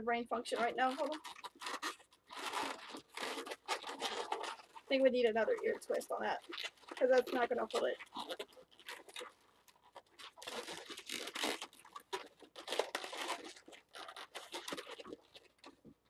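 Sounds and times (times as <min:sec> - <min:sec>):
balloons rubbing and scraping: 0:00.0 - 0:15.8.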